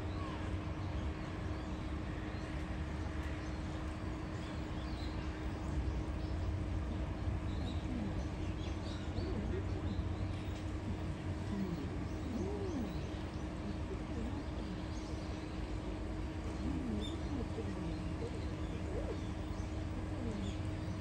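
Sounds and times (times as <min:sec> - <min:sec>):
faint low cooing calls: 0:00.0 - 0:21.0
steady low hum: 0:00.0 - 0:21.0.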